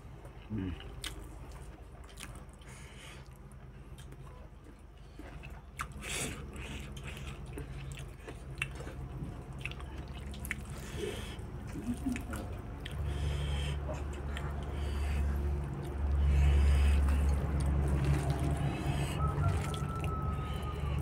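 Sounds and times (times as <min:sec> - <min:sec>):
low steady hum: 0:00.0 - 0:21.0
person chewing rice: 0:00.0 - 0:21.0.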